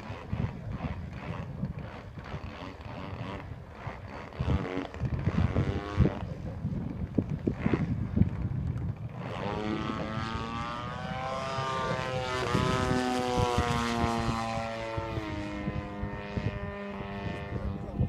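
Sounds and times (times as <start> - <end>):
model airplane engine buzz: 0.0 - 18.0.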